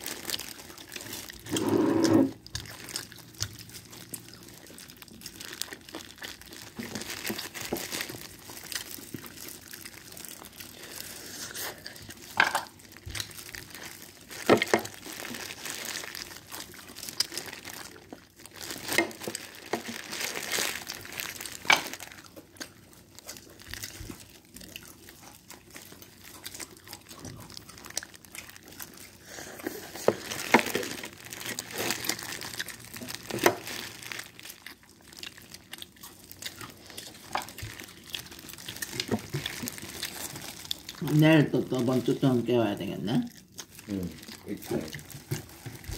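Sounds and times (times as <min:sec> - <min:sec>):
fried chicken crunching: 0:00.0 - 0:45.9
plastic gloves crinkling: 0:00.0 - 0:45.9.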